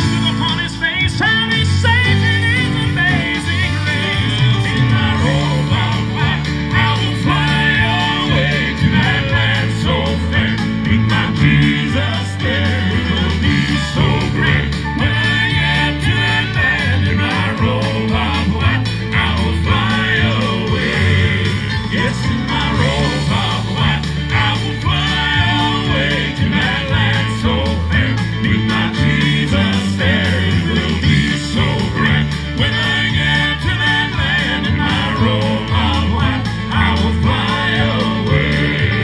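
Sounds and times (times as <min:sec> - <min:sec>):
instrumental accompaniment: 0:00.0 - 0:39.0
male quartet singing in harmony: 0:00.0 - 0:39.0.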